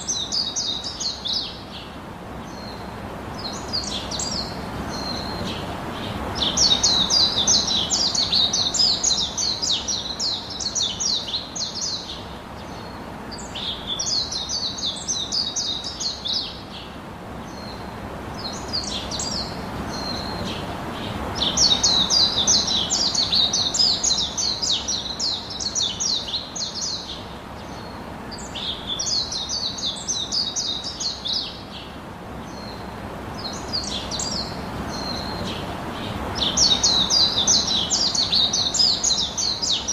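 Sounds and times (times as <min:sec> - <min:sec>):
low background rush: 0:00.0 - 0:39.9
songbird singing: 0:00.0 - 0:39.9.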